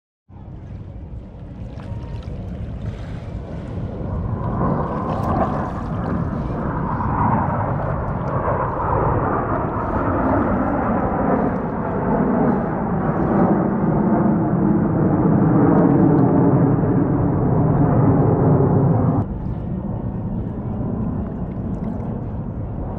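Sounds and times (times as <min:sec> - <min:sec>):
jet roar overhead: 0:01.3 - 0:22.9.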